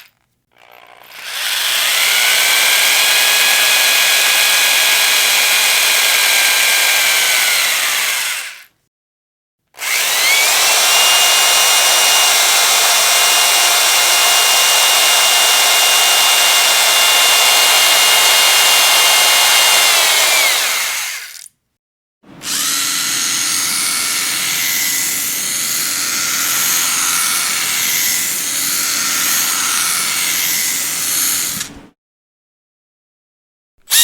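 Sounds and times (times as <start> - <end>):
electric power drill whining: 0.0 - 8.7, 9.8 - 21.5, 22.3 - 31.9.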